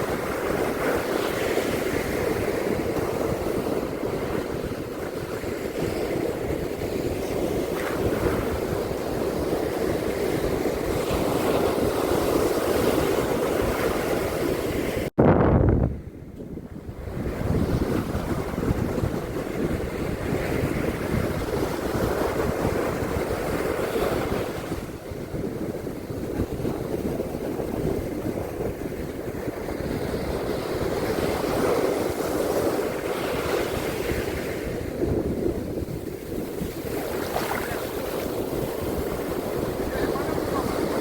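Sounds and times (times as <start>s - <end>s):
waves breaking on a beach: 0.0s - 15.1s, 16.7s - 41.0s
wind rumbling on microphone: 0.0s - 41.0s.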